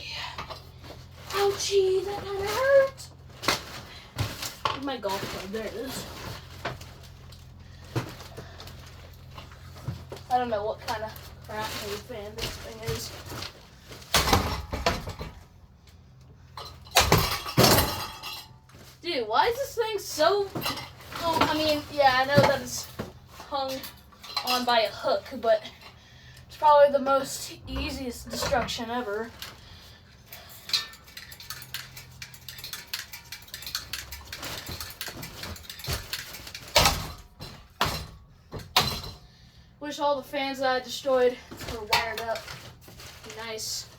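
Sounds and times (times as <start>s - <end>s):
ceiling fan rattling: 0.0s - 43.9s.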